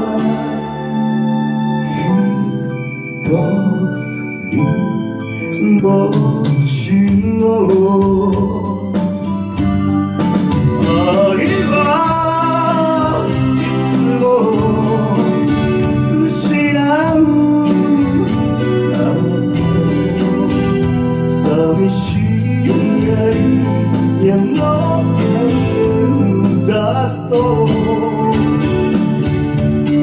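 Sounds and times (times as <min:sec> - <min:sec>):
electric bass: 0:00.0 - 0:02.6, 0:06.9 - 0:30.0
man singing into a microphone: 0:00.0 - 0:09.1, 0:10.8 - 0:29.1
acoustic guitar: 0:00.0 - 0:30.0
electric guitar: 0:00.0 - 0:30.0.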